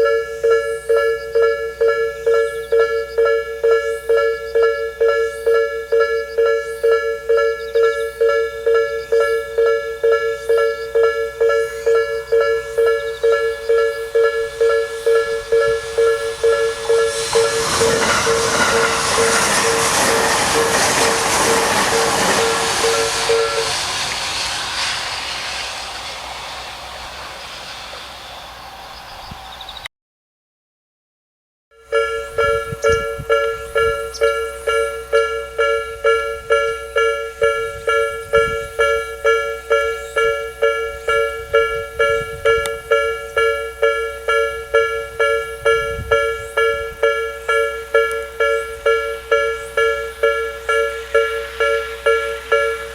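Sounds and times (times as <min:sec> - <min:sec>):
level crossing warning bell: 0:00.0 - 0:24.0, 0:31.7 - 0:52.9
electric train wheel noise: 0:00.0 - 0:29.9, 0:31.8 - 0:52.9.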